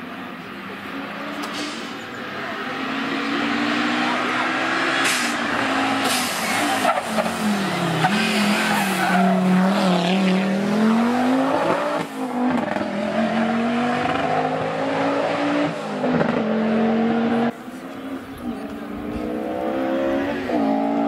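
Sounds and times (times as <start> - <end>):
rally car engine revving: 0.8 - 21.0.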